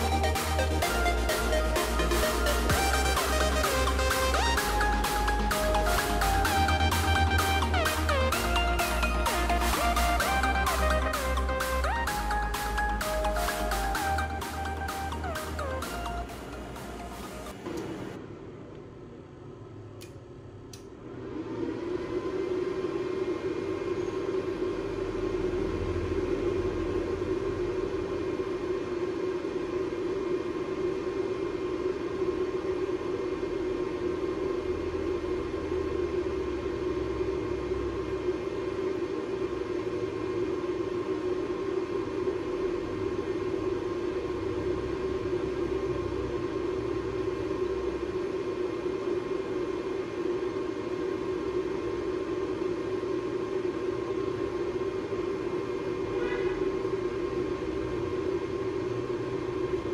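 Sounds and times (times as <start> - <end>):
induction heater whirring hum: 0.0 - 59.9.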